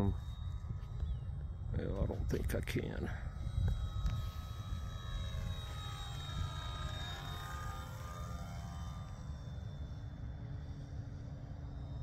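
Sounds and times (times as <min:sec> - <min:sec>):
model plane motor whining: 0:00.0 - 0:12.0.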